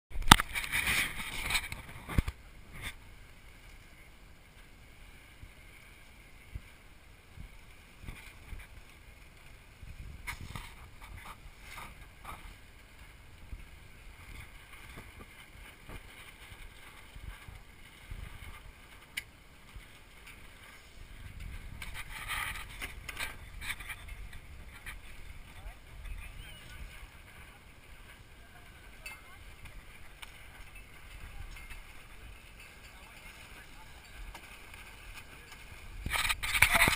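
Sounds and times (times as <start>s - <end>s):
faint outdoor background: 0.1s - 36.9s.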